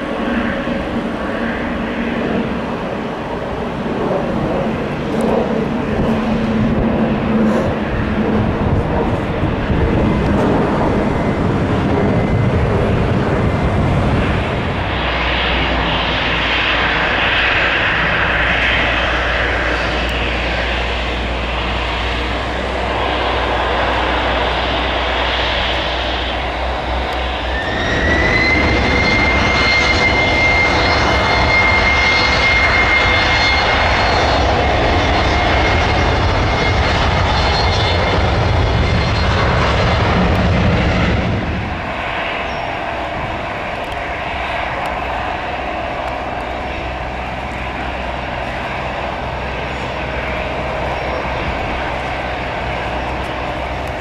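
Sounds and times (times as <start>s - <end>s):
jet engines running: 0.0s - 54.0s
engine whine rising in pitch: 0.8s - 54.0s.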